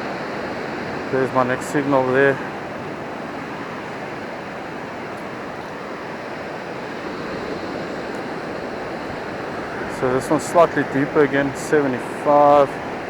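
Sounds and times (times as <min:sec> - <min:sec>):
ocean waves washing on beach: 0:00.0 - 0:13.0.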